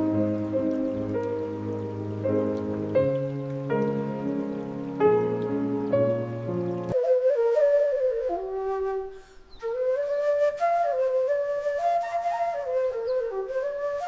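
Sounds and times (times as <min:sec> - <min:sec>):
slow solo flute melody: 0:00.0 - 0:14.0.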